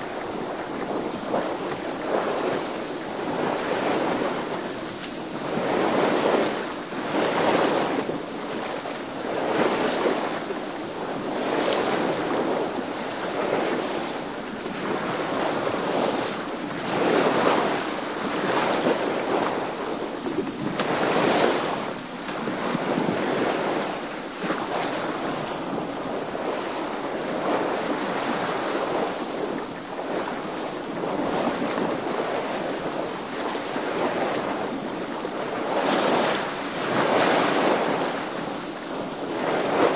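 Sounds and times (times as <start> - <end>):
water splashing along boat hull: 0.0 - 39.9
wind: 0.0 - 39.9.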